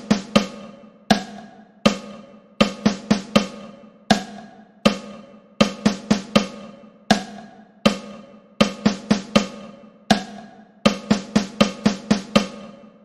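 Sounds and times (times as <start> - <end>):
snare drum strokes: 0.0 - 4.3, 4.9 - 12.6.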